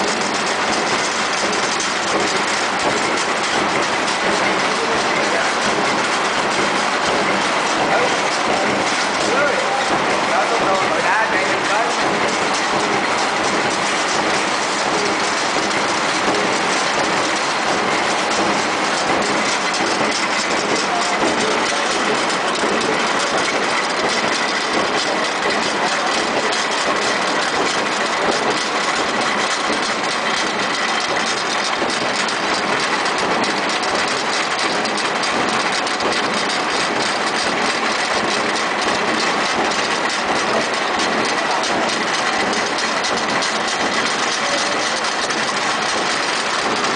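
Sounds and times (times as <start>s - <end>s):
paper cutting machine running: 0.0s - 46.9s.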